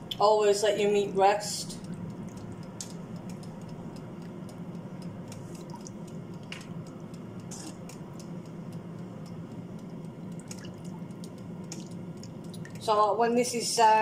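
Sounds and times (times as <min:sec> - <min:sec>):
steady low hum: 0:00.0 - 0:14.0
gravy bubbling and popping: 0:01.6 - 0:12.9.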